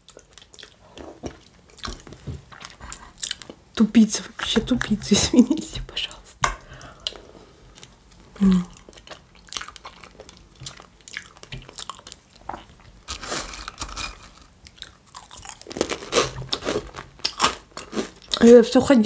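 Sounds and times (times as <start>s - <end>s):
person chewing with crunches: 0.0s - 3.8s, 6.8s - 18.5s.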